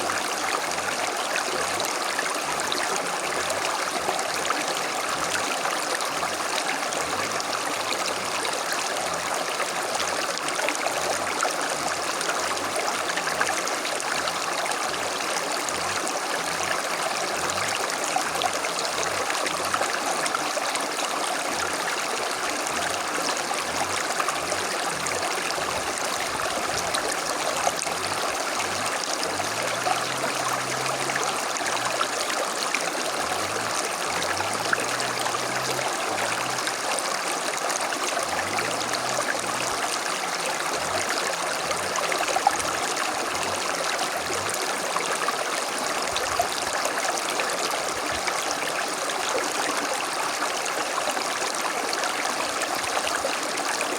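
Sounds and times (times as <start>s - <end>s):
creek babbling over stones: 0.0s - 53.9s.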